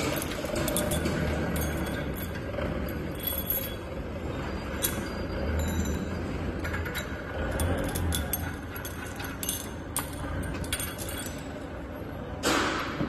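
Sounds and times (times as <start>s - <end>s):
metal parts clinking: 0.0s - 12.4s
low background hum: 0.0s - 13.0s.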